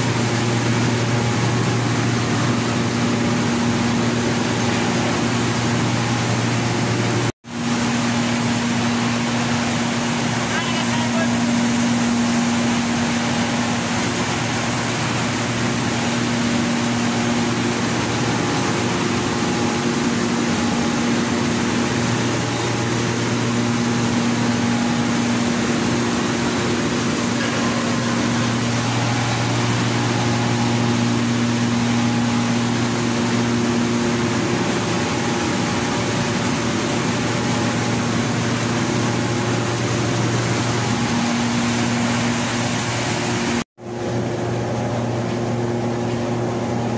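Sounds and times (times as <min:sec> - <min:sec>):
mill machinery drone: 0:00.0 - 0:46.9.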